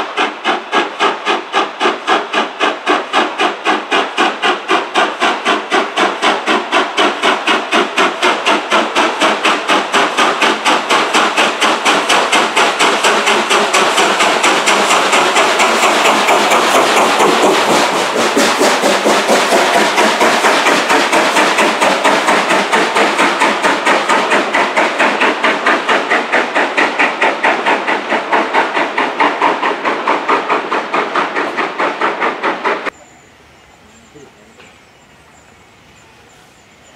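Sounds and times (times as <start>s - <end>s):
steam locomotive chuffing: 0.0s - 36.9s.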